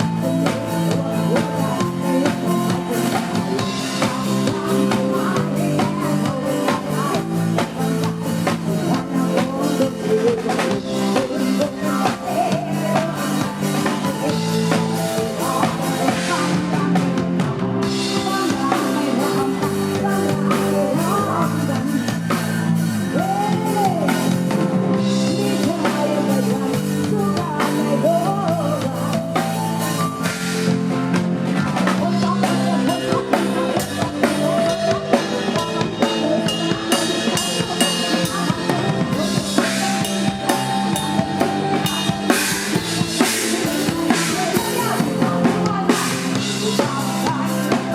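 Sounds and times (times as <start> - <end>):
bass: 0.0 - 47.9
drum kit beat: 0.0 - 47.9
gliding lead melody: 0.0 - 47.9
live band music: 0.0 - 47.9.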